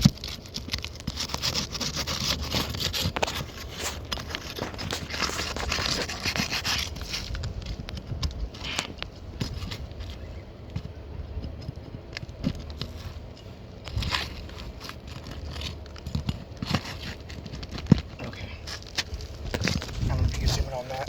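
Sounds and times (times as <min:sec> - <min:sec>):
scraping on roof shingles: 0:00.0 - 0:21.0.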